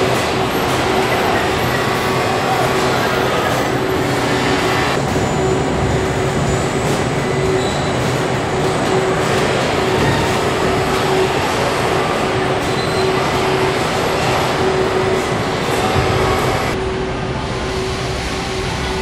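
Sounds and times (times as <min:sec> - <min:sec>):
factory machinery din: 0:00.0 - 0:19.0.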